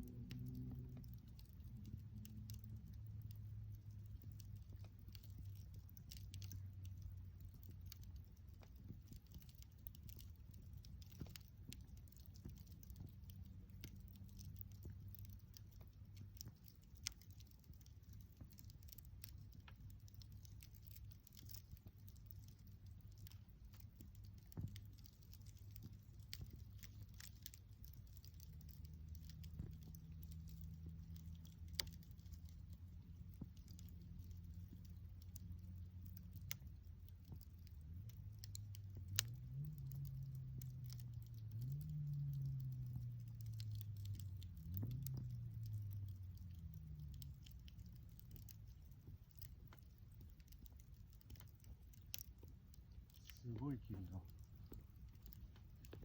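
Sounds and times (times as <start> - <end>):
bonfire crackling: 0.0 - 56.0
low steady hum: 0.0 - 56.0.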